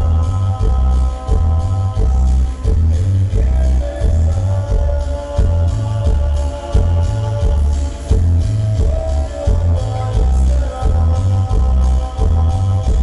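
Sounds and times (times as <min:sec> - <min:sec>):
loud dance music with bass beat: 0:00.0 - 0:13.0.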